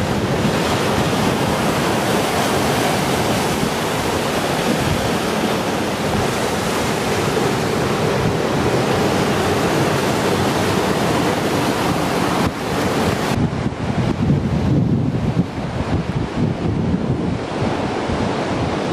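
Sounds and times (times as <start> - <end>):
surf breaking over sea wall: 0.0 - 18.9
wind buffeting microphone: 0.0 - 18.9.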